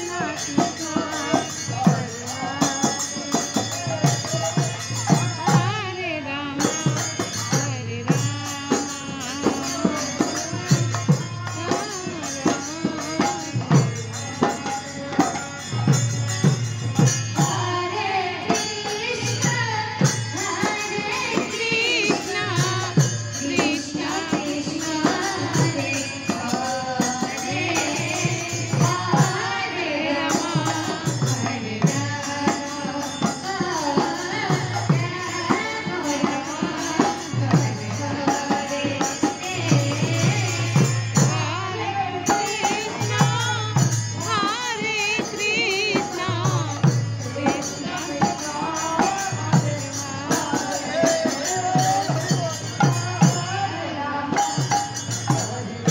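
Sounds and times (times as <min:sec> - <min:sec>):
group singing a chant: 0:00.0 - 0:55.9
hand cymbals jingling: 0:00.0 - 0:55.9
hand drums beating: 0:00.0 - 0:55.9.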